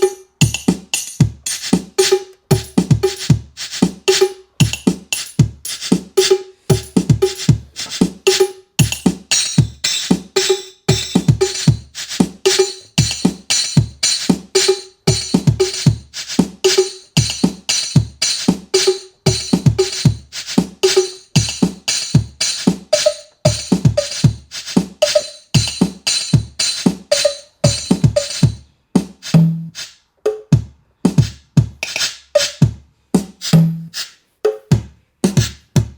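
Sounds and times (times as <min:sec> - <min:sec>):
drum machine pattern: 0:00.0 - 0:35.9.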